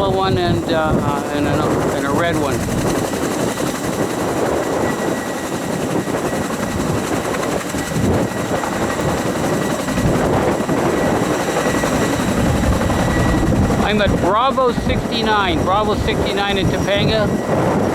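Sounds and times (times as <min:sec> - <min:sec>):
helicopter rotors and turbines: 0:00.0 - 0:17.9.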